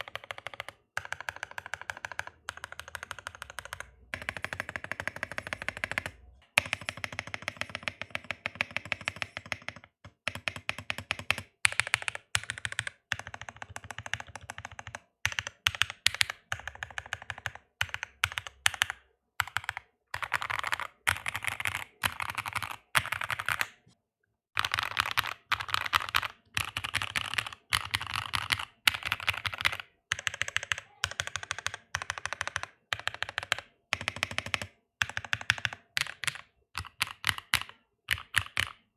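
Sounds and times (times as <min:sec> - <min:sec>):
mechanical keyboard typing: 0:00.0 - 0:23.8, 0:24.6 - 0:38.9.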